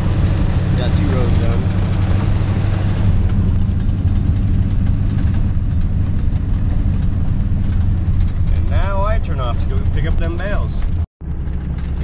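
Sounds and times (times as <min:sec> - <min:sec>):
truck engine drone: 0:00.0 - 0:12.0
tyre and road noise: 0:00.0 - 0:12.0
gravel ticks: 0:00.2 - 0:12.0.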